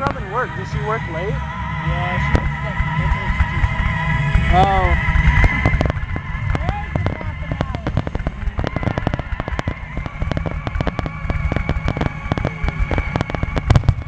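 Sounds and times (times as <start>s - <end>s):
fireworks cracks and booms: 0.0s - 0.9s, 2.1s - 14.0s
low rumble: 0.0s - 14.0s
thin steady whistle: 0.0s - 14.0s.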